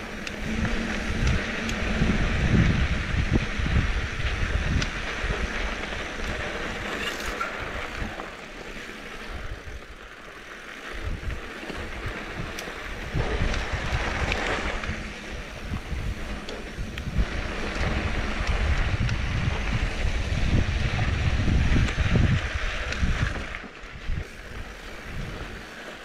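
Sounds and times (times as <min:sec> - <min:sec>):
wind buffeting microphone: 0:00.0 - 0:10.0, 0:10.9 - 0:25.9
bike tyres on loose dirt: 0:00.0 - 0:26.0.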